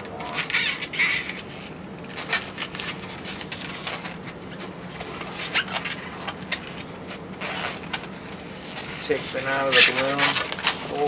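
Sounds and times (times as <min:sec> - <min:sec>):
balloon rubbing squeaks: 0:00.0 - 0:11.0.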